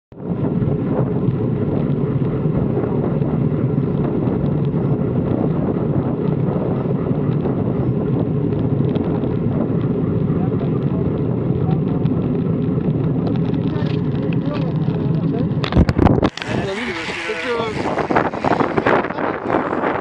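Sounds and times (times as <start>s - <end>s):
road noise: 0.1s - 20.0s
wind on microphone: 0.1s - 20.0s.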